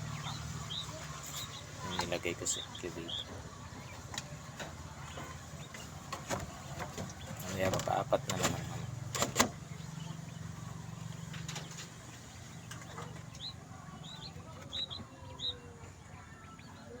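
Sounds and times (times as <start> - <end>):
quail chirping: 0.0 - 17.0.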